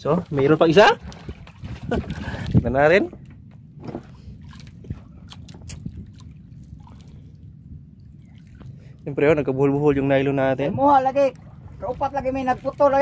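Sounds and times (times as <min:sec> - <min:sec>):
low steady rumble: 0:00.0 - 0:13.0
water lapping against boat hull: 0:00.0 - 0:13.0.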